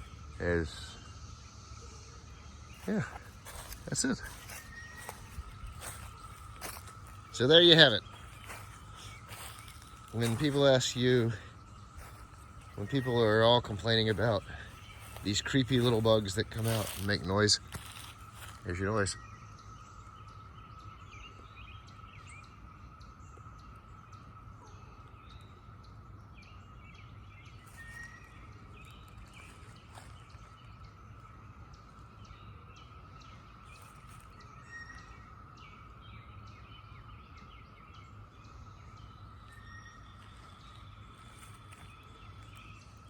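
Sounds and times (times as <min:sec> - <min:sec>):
cicadas droning: 0:00.0 - 0:43.0.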